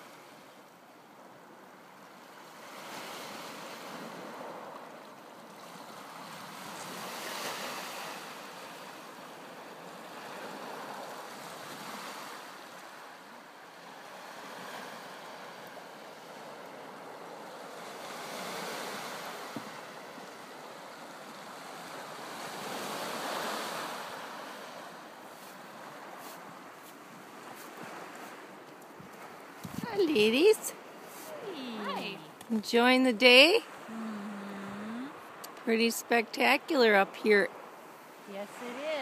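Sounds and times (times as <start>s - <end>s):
waves washing onto shore: 0.0s - 39.0s
wind: 0.0s - 39.0s.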